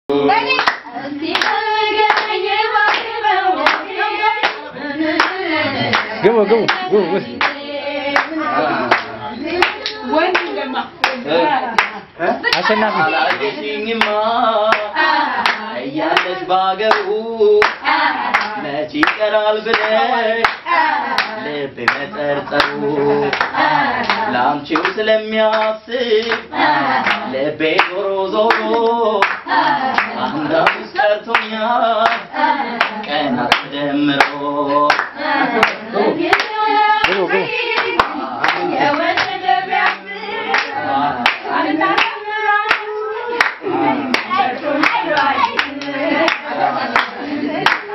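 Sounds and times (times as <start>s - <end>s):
group singing together: 0.1s - 47.9s
hand claps keeping a beat: 0.3s - 47.9s.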